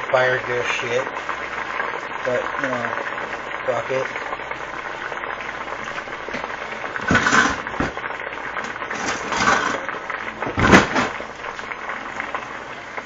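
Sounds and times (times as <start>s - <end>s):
food deep frying in grease: 0.0s - 13.0s.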